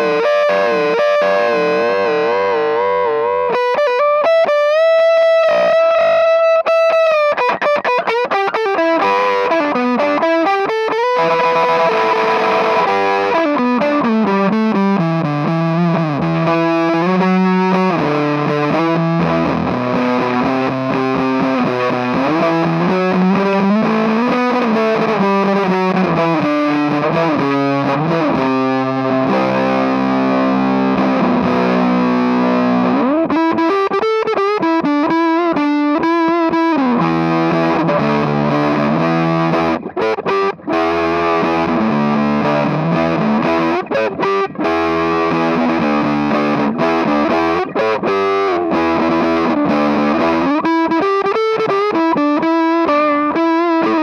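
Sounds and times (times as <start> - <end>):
distorted fuzz electric guitar: 0.0 - 54.0.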